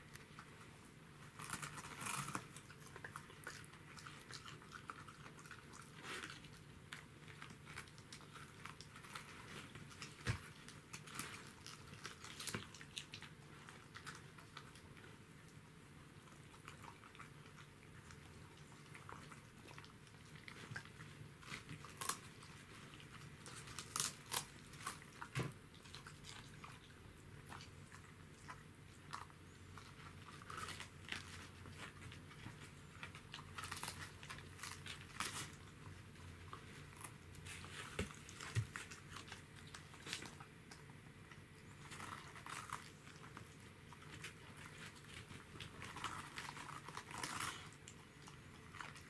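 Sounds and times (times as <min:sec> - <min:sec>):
dogs crunching cabbage leaves: 0:00.0 - 0:49.0.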